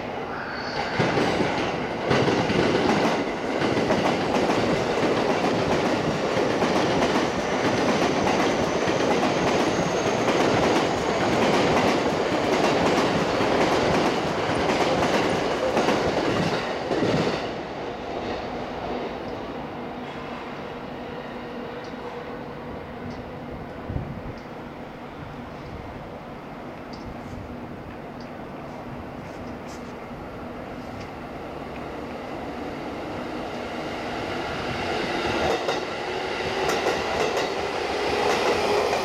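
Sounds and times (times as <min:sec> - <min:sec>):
train passing: 0:00.0 - 0:39.0.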